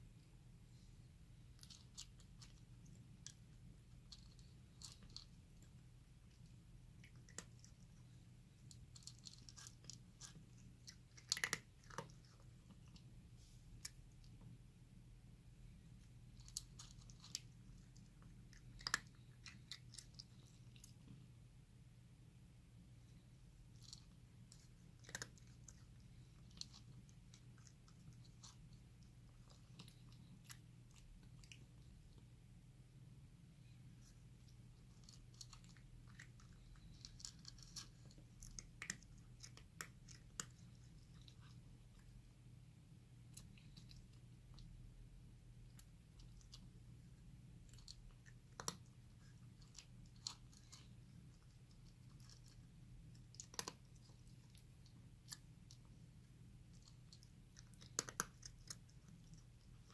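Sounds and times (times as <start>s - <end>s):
cat chewing and crunching food: 0.0s - 59.9s.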